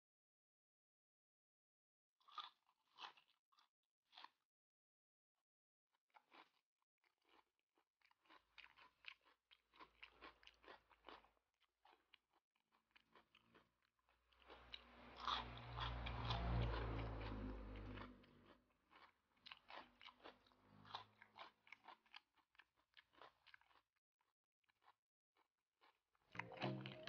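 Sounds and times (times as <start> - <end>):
chewing and crunching food: 2.2 - 4.6, 5.9 - 27.0.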